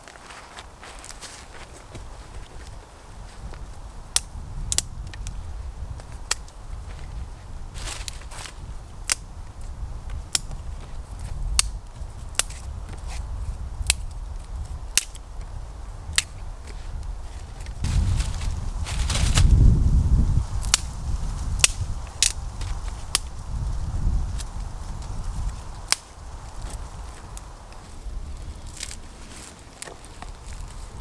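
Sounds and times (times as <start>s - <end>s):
wind buffeting microphone: 0.8s - 31.0s.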